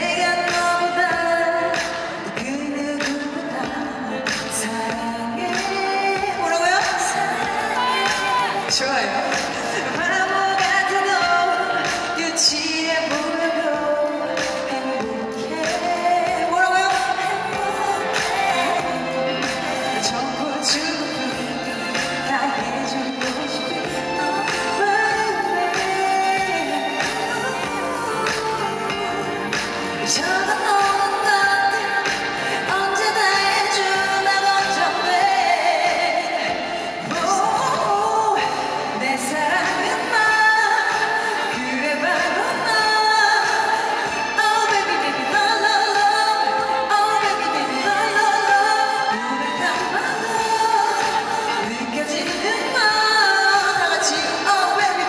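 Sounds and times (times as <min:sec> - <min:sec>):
instrumental backing track: 0:00.0 - 0:55.0
pop music: 0:00.0 - 0:55.0
woman singing into microphone: 0:00.0 - 0:55.0.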